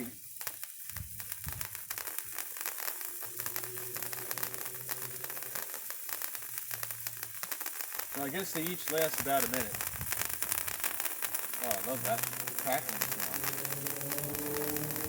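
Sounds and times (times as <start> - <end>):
firework fizzing and crackling: 0.0 - 15.0.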